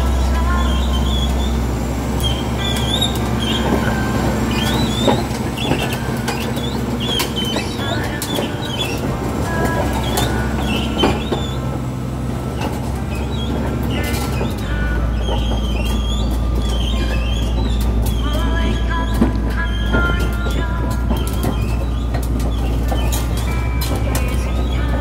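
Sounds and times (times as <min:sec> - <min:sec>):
diesel engine running: 0:00.0 - 0:25.0
high squeaks: 0:00.0 - 0:25.0.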